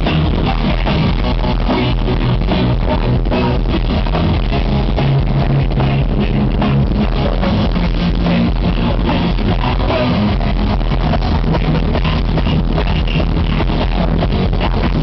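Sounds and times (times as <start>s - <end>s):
distorted heavy metal band: 0.0s - 15.0s.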